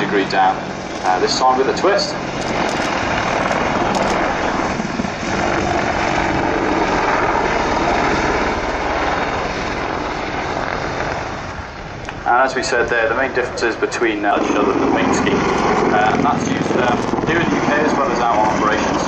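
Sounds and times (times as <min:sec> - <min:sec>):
helicopter roaring overhead: 0:00.0 - 0:19.0.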